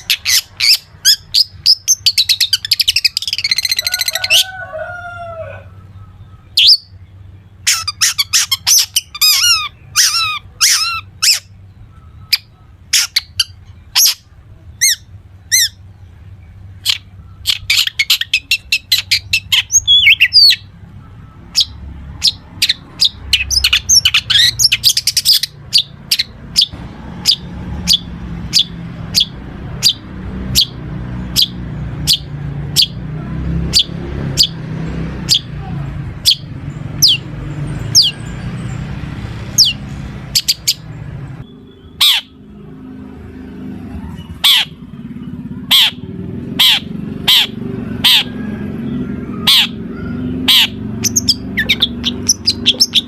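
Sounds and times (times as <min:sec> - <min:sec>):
shrike singing varied song: 0:00.0 - 0:53.0.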